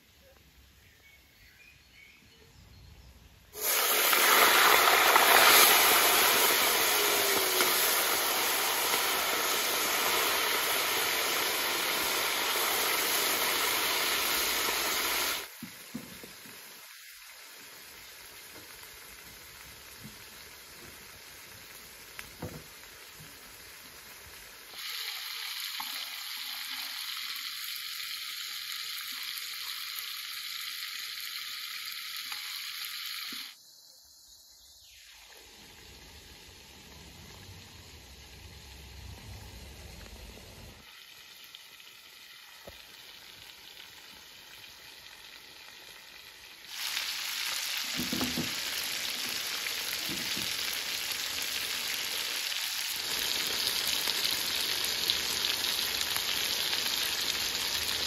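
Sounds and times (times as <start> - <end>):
chicken sizzling in oil: 3.5 - 33.6, 34.8 - 58.0.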